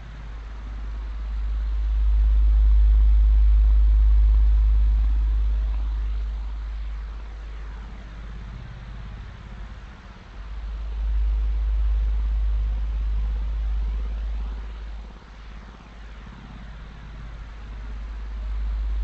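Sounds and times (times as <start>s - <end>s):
deep low drone: 0.0s - 19.0s
static hiss: 0.0s - 19.0s.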